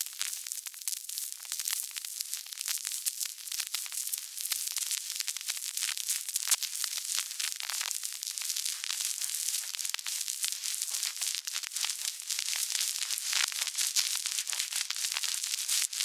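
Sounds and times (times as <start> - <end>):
vinyl record crackle: 0.0 - 16.0.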